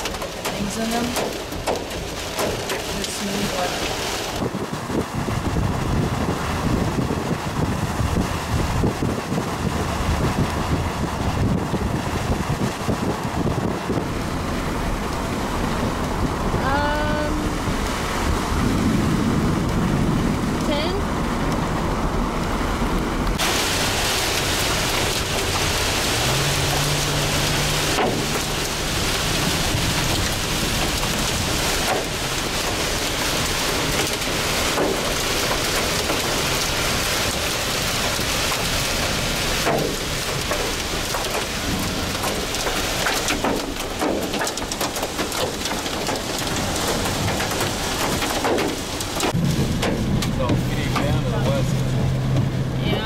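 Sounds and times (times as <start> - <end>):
heavy rain on vehicle: 0.0 - 53.0.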